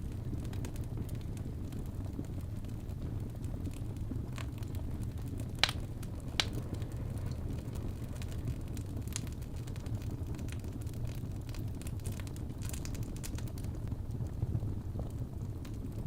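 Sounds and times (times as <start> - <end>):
fire crackling and popping: 0.0 - 16.0
fire rumbling in fireplace: 0.0 - 16.0.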